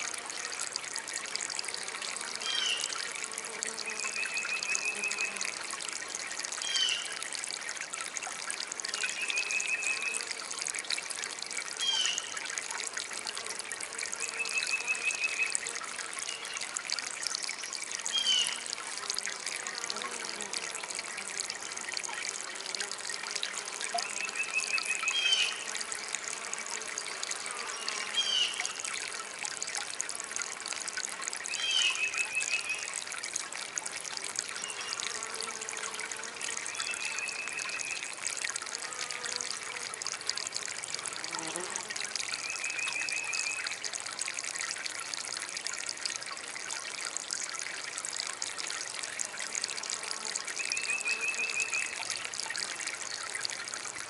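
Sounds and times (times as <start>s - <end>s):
small water fountain trickling: 0.0s - 54.0s.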